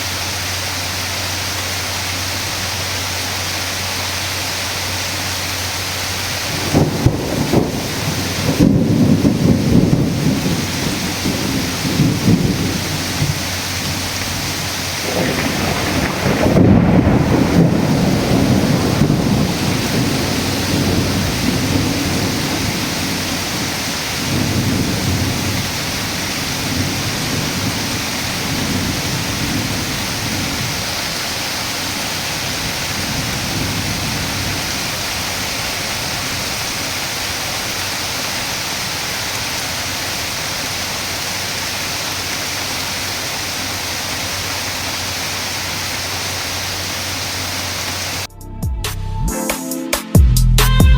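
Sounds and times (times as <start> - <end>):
heavy rain pouring: 0.0 - 48.3.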